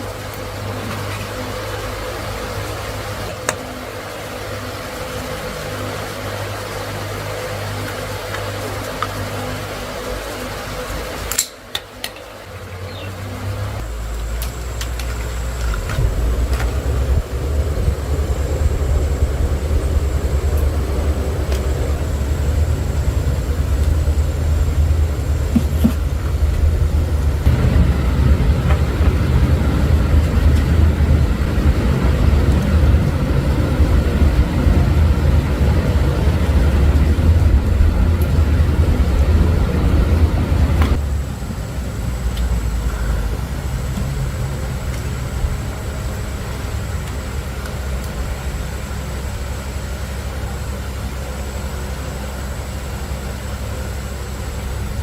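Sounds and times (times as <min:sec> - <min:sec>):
engine rumbling: 0:00.0 - 0:55.0.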